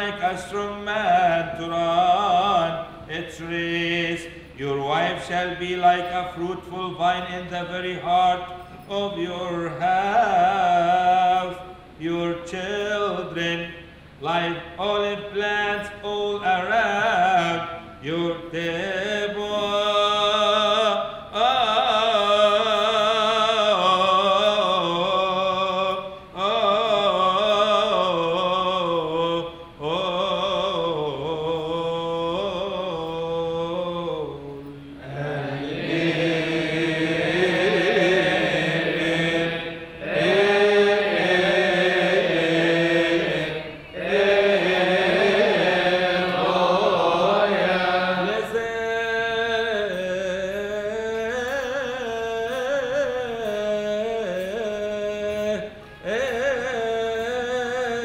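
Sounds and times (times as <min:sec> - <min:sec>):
man chanting a hymn: 0:00.0 - 0:58.0.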